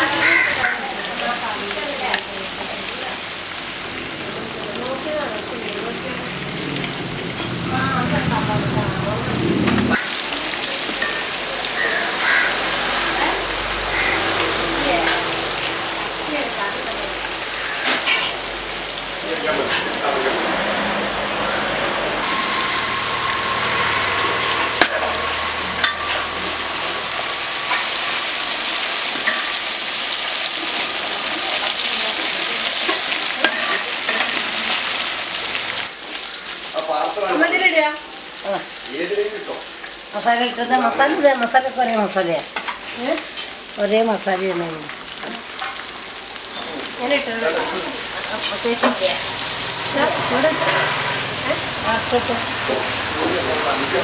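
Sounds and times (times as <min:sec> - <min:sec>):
fish frying in hot oil: 0:00.0 - 0:54.0.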